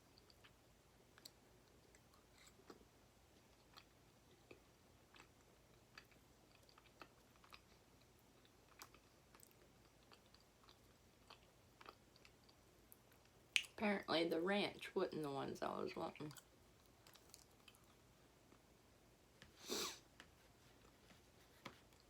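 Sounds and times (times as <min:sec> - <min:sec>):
soft wet chewing: 0:00.0 - 0:13.8, 0:16.1 - 0:18.8, 0:20.1 - 0:22.0.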